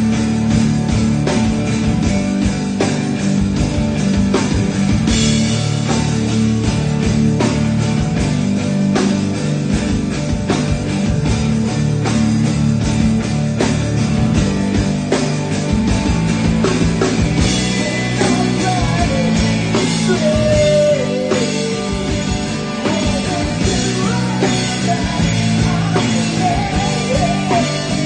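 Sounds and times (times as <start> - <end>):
electric guitars: 0.0 - 28.0
steady drum beat: 0.0 - 28.0.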